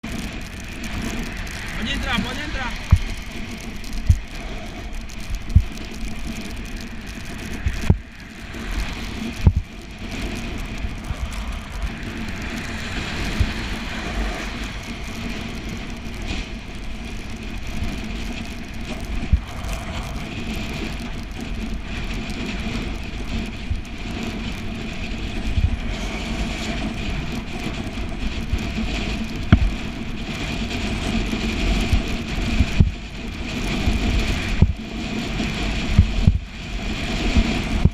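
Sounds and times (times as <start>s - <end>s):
bicycle tyre noise on wet road: 0.0s - 37.9s.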